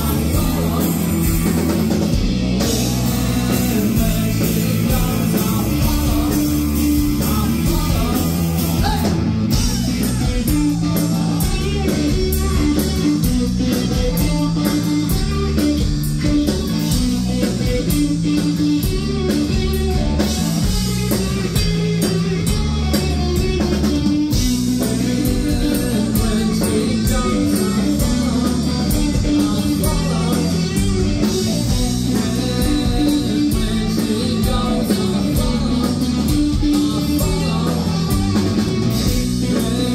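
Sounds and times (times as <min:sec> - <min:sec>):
man singing: 0:00.0 - 0:20.7, 0:24.4 - 0:39.9
bass guitar: 0:00.0 - 0:39.9
distorted electric guitar: 0:00.0 - 0:39.9
drum kit: 0:00.0 - 0:39.9.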